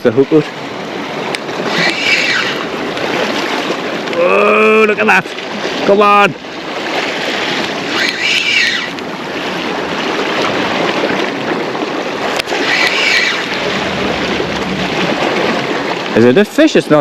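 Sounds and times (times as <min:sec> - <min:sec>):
wind on microphone: 0:00.0 - 0:04.3, 0:06.6 - 0:16.2
sea washing against rocks: 0:00.0 - 0:17.0.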